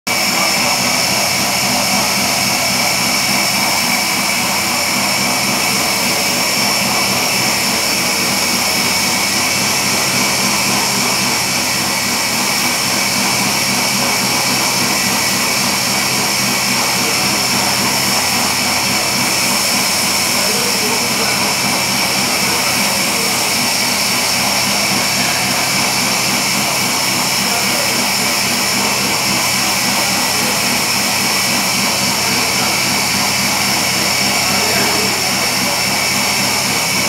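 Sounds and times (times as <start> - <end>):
machine running with whine: 0.1 - 37.0.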